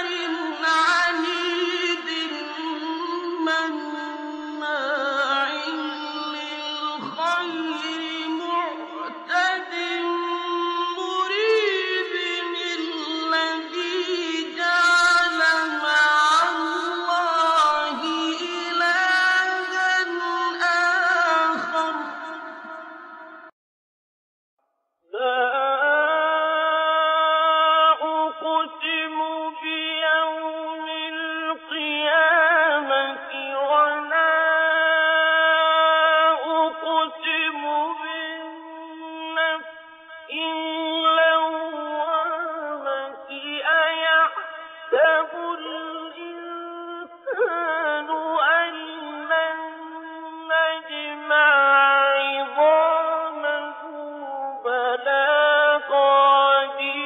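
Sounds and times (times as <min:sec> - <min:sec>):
man reciting melodically: 0:00.0 - 0:23.5, 0:25.2 - 0:57.0.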